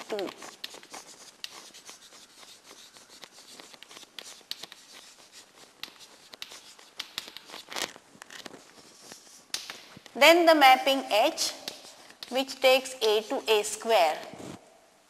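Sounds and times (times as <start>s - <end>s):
chalk scratching on chalkboard: 0.0s - 10.0s, 11.1s - 13.9s.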